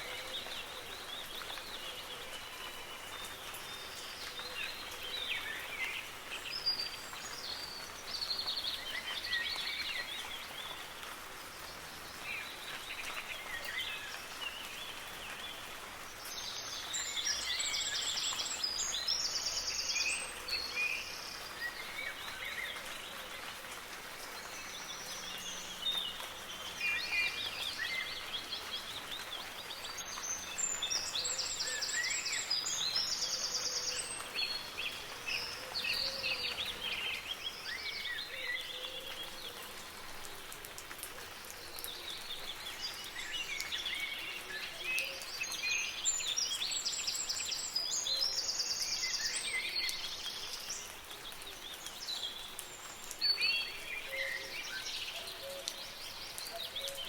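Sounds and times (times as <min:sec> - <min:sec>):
soft rain hiss: 0:00.0 - 0:57.0
songbirds chirping and trilling: 0:00.0 - 0:57.0.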